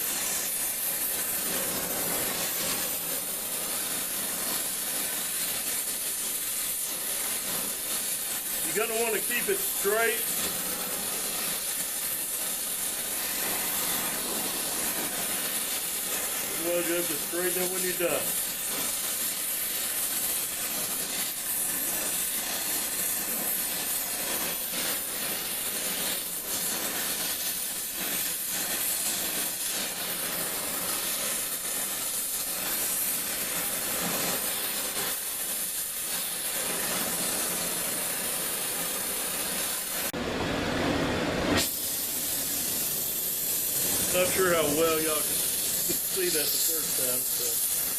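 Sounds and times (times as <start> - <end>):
gas torch hissing: 0.0 - 47.9.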